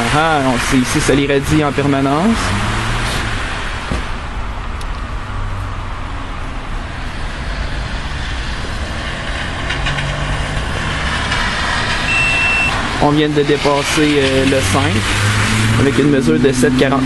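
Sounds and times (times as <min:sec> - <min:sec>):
road traffic noise: 0:00.0 - 0:17.0
vehicle engine hum: 0:00.0 - 0:17.0.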